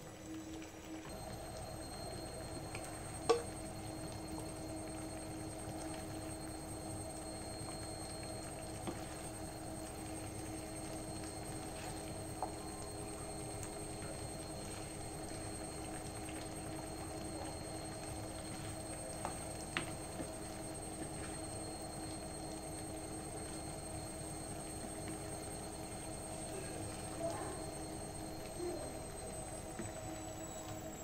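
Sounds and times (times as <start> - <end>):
electrical hum: 0.0 - 31.0.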